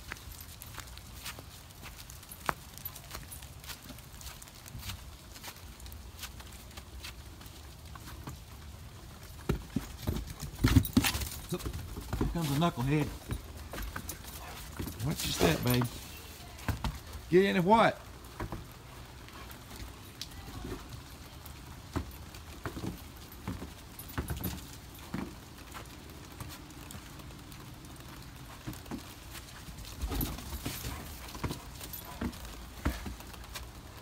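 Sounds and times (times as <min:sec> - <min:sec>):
footsteps on snowy wooden deck: 0:00.0 - 0:34.0.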